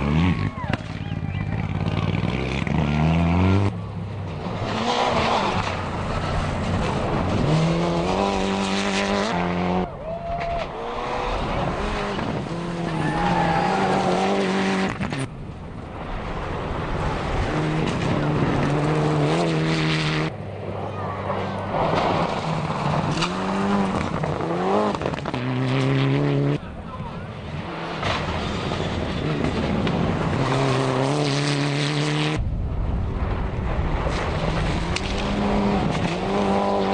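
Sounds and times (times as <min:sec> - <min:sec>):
rally car engines accelerating: 0:00.0 - 0:32.4, 0:33.4 - 0:36.9
tyre and gravel noise: 0:03.4 - 0:19.5, 0:20.7 - 0:36.9.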